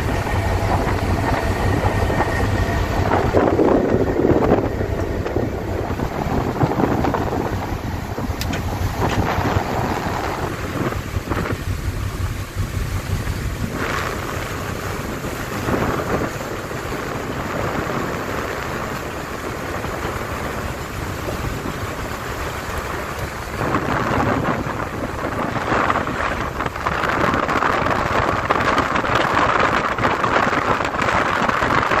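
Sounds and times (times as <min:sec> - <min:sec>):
water noise: 0:00.0 - 0:32.0
wind buffeting microphone: 0:00.0 - 0:32.0.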